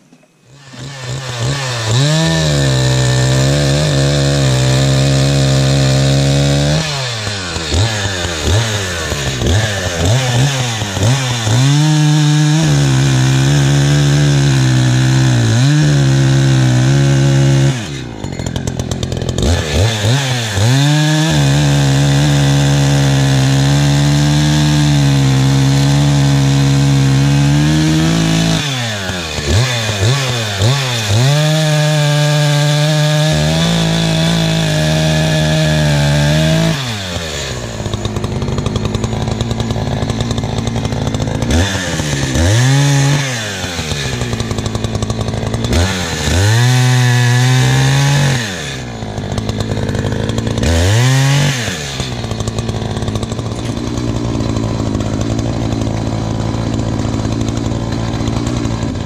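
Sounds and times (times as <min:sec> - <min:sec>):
chainsaw cutting logs: 0:00.0 - 0:59.0
chainsaw idling: 0:00.0 - 0:59.0.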